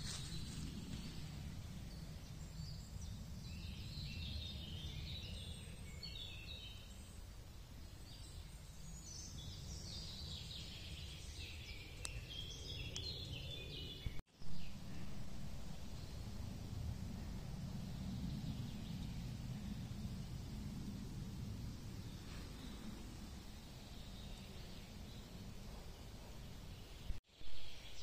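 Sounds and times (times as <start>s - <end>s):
low outdoor background rumble: 0.0s - 27.2s
songbirds singing: 0.0s - 28.0s.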